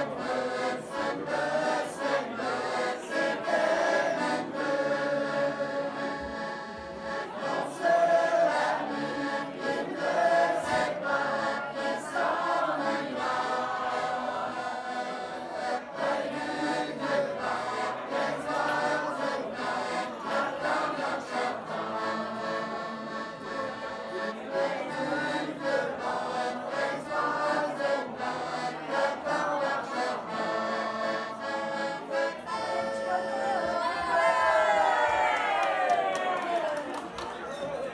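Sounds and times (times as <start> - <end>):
choir singing in unison: 0.0 - 34.1
accordion: 0.0 - 34.8.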